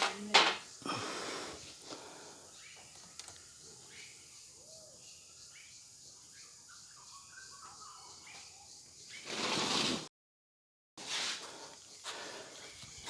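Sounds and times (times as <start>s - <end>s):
faint birds chirping: 0.1s - 9.7s, 11.0s - 13.0s.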